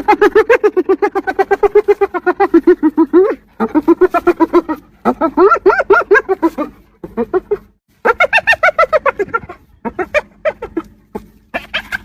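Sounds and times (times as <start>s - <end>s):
hyena giggling: 0.0s - 12.0s.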